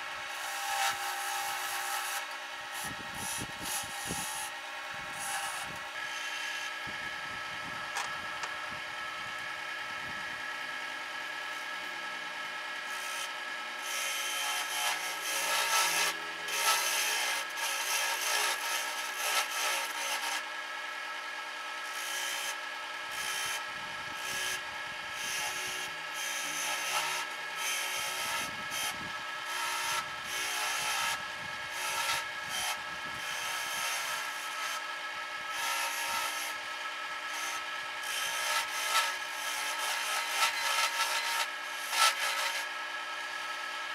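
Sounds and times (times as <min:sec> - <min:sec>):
chisel scraping spinning wood: 0:00.0 - 0:06.8, 0:12.7 - 0:20.8, 0:21.4 - 0:42.9
wood lathe humming: 0:00.0 - 0:43.9.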